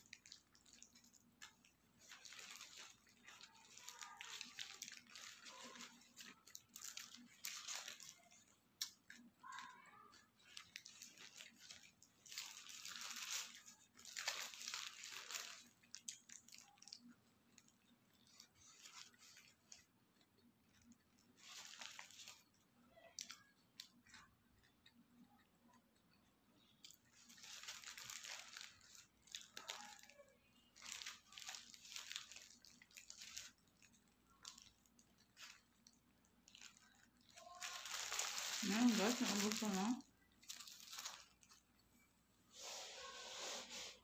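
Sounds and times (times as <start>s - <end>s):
paper wrapper crinkling: 0.0s - 25.1s, 26.6s - 43.0s
faint chewing: 0.0s - 42.1s.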